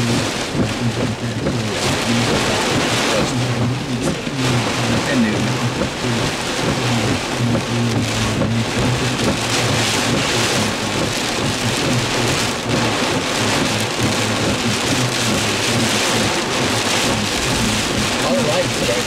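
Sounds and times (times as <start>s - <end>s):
heavy rain on a car: 0.0s - 19.0s
low hum: 0.0s - 19.0s.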